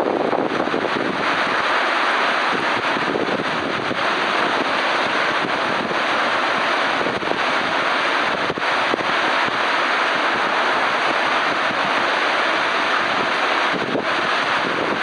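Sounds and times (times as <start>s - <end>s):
heavy rain on a sheet roof: 0.0s - 15.0s.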